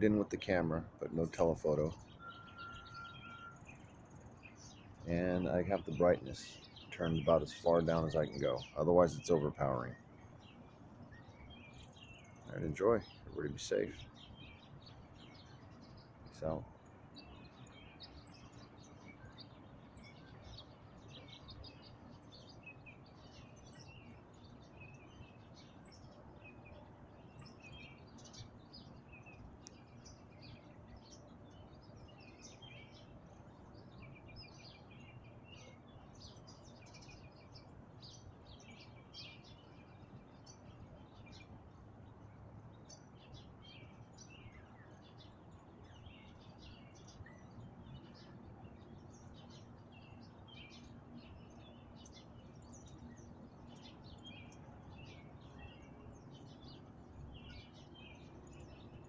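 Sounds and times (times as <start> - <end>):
faint birdsong: 0.0 - 59.0.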